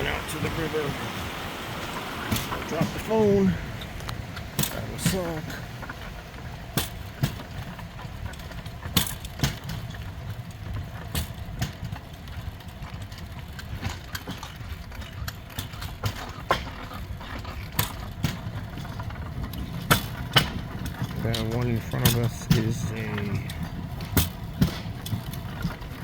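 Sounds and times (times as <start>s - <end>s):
steel wheels rumbling on track: 0.0s - 26.0s
sharp wheel clacks: 3.9s - 26.0s.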